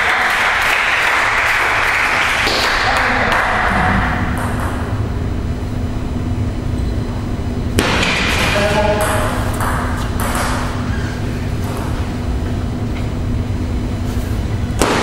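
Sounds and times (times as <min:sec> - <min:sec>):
hall rumble and hum: 0:01.3 - 0:15.0.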